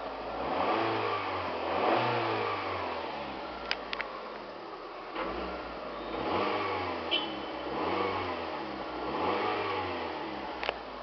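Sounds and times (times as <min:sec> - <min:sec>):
car engine revving: 0:00.0 - 0:03.8, 0:05.1 - 0:10.8.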